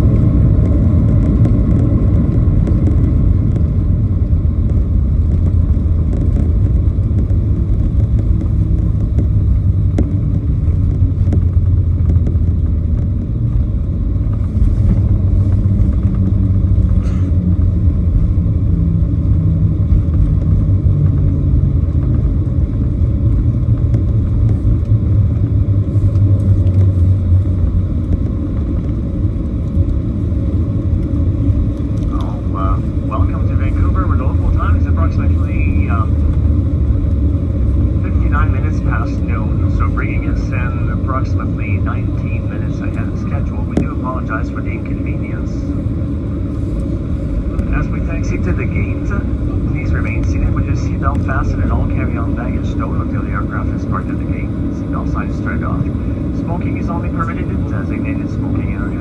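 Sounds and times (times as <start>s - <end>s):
cabin rumble: 0.0s - 59.0s
jet engines droning: 0.0s - 59.0s.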